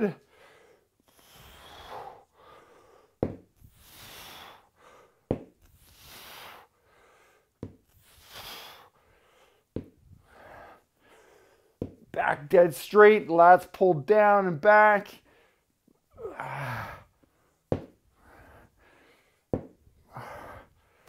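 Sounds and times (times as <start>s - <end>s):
man breathing: 0.0s - 12.0s, 15.2s - 21.0s.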